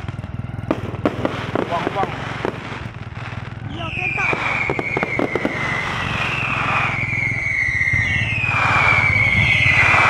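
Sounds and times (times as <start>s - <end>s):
fireworks crackling pops: 0.0s - 10.0s
low vehicle engine: 0.0s - 10.0s
whistling fireworks: 0.0s - 10.0s.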